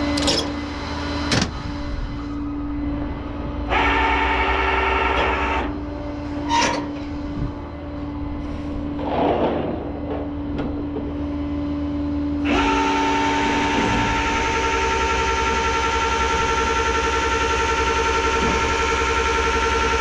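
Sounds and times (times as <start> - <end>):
motor whine: 0.0 - 9.1, 10.3 - 20.0
steady mechanical hum: 0.0 - 20.0.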